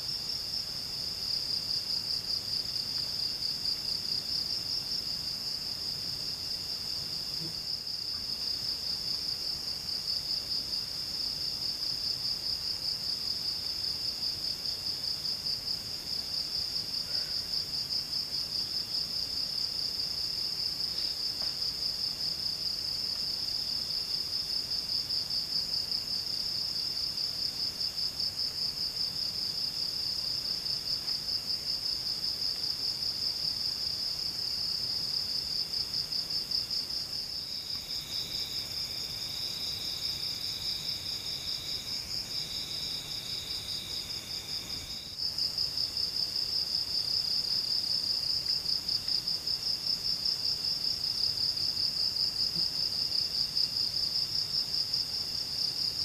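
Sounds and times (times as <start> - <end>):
lower insect trill: 0.0 - 56.0.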